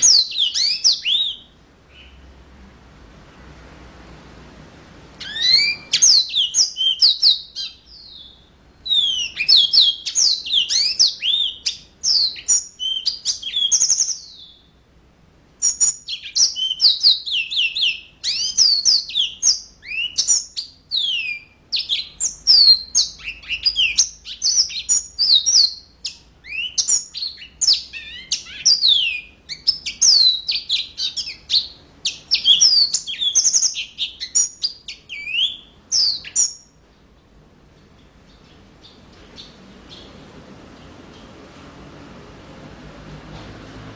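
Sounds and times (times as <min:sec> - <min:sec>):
canary singing: 0:00.0 - 0:02.4, 0:05.1 - 0:14.8, 0:15.6 - 0:36.9, 0:37.9 - 0:41.2.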